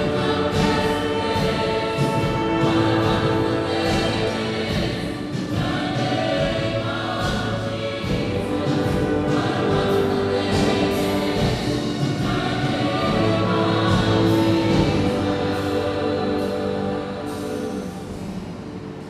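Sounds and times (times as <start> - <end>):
choir singing gospel music: 0.0 - 19.0
instrumental accompaniment: 0.0 - 19.0.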